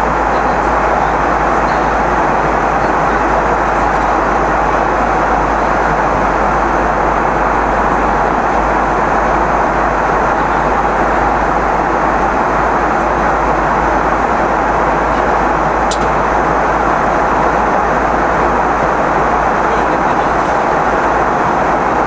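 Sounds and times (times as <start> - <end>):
aircraft cabin noise: 0.0 - 22.0.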